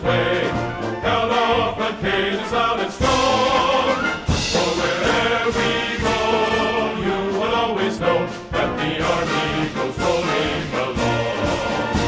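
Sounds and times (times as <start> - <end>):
background music with singing: 0.0 - 12.0.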